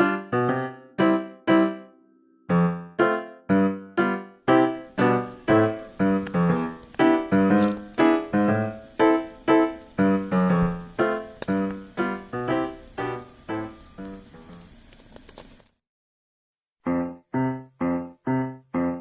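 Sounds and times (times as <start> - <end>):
piano music: 0.0 - 14.8, 16.8 - 19.0.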